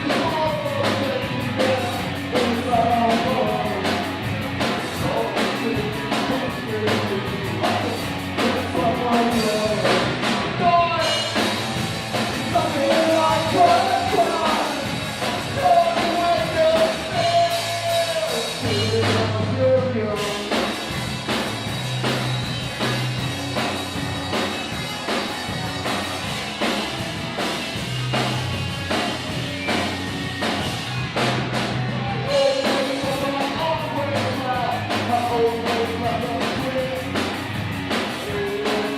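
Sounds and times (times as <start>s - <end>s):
rock song with singer: 0.0s - 38.9s.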